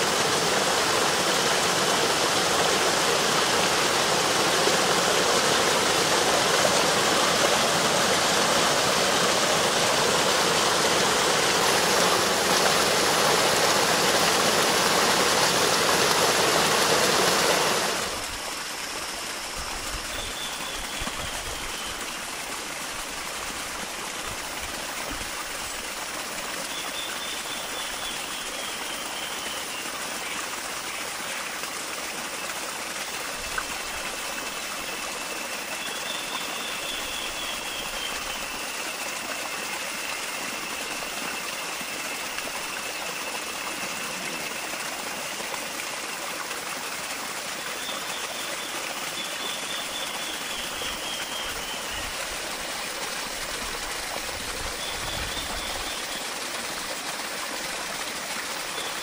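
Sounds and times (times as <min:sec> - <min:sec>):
waterfall splashing over rocks: 0:00.0 - 0:59.0.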